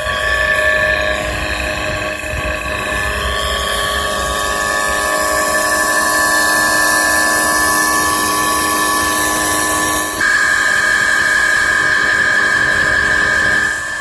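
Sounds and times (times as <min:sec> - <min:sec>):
motor whine: 0:00.0 - 0:14.0.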